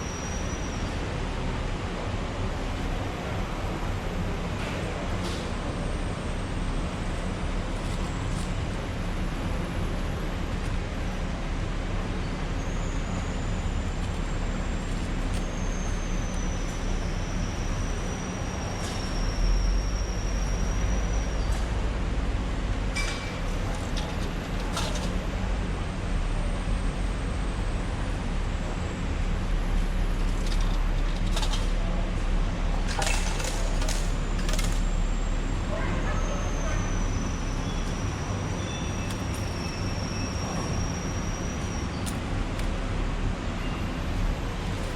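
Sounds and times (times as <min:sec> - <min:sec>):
ferry engine humming: 0:00.0 - 0:44.9.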